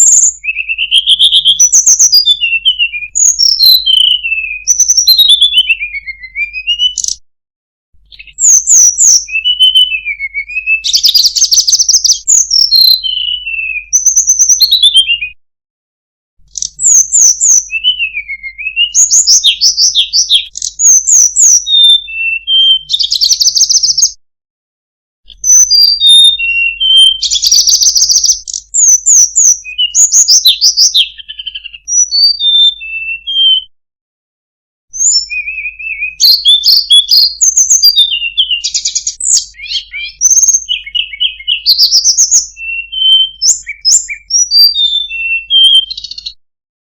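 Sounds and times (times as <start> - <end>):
songbird singing: 0.0 - 7.2, 8.0 - 15.4, 16.4 - 24.2, 25.3 - 33.7, 34.9 - 46.4.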